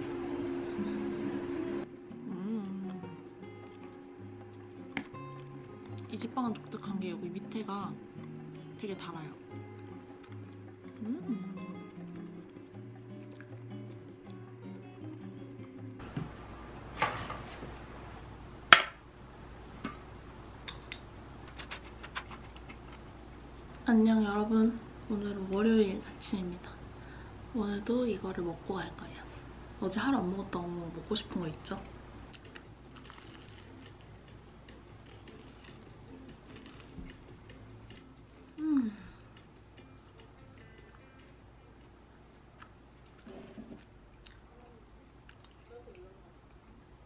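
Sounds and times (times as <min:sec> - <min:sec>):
soft background music: 0:00.0 - 0:16.6, 0:23.8 - 0:26.8, 0:27.5 - 0:45.8.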